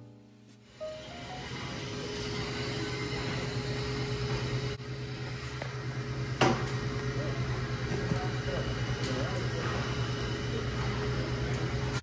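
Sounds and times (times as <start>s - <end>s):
low indoor hum: 0.0s - 12.0s.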